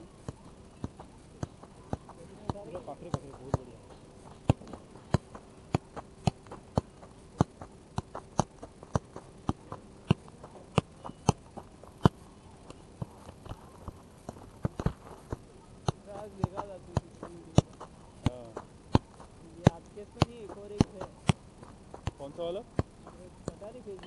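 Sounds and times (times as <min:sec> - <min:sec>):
football thudding on foot: 0:00.2 - 0:12.3, 0:12.9 - 0:23.6.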